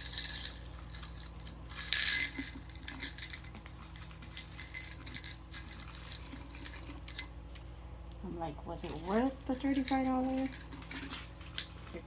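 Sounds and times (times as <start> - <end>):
jewelry clinking and jingling: 0.0 - 7.4, 8.8 - 12.0.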